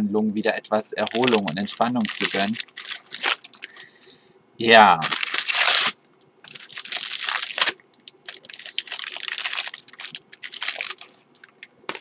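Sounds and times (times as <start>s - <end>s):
paper wrapping crinkling: 1.0s - 3.9s, 5.0s - 12.0s.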